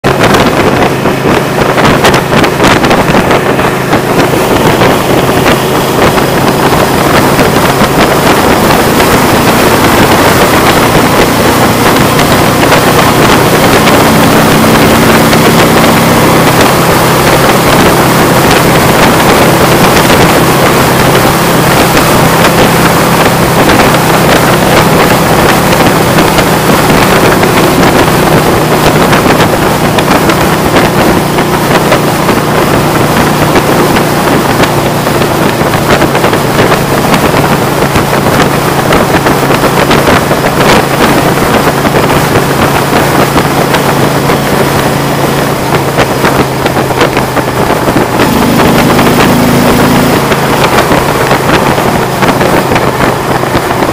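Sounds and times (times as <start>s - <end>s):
motorcycle engine drone: 0.0s - 53.9s
wind rushing over microphone: 0.0s - 53.9s.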